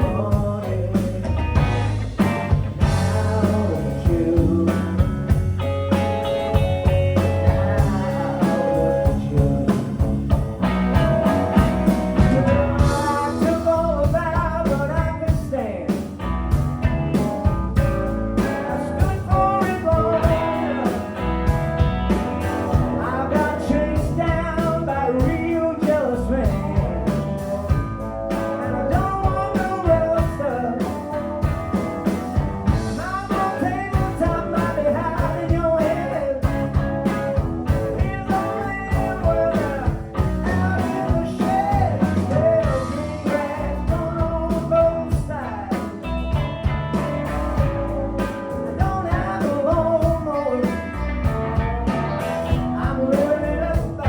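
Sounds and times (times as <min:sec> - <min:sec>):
bending lead melody: 0:00.0 - 0:14.7, 0:16.2 - 0:25.2, 0:26.5 - 0:54.0
drums keeping a beat: 0:00.0 - 0:54.0
live blues-rock band: 0:00.0 - 0:54.0.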